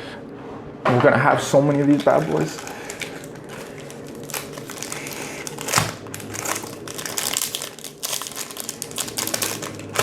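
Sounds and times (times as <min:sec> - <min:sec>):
foil wrappers crinkling and tearing: 0:01.9 - 0:10.0.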